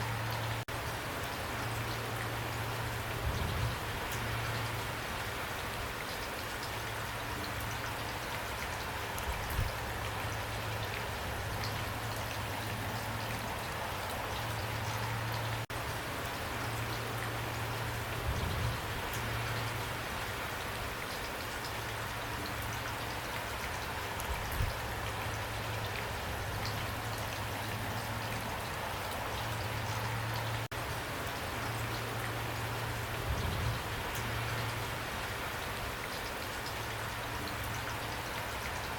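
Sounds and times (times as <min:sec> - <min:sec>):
rain patter: 0:00.0 - 0:38.9.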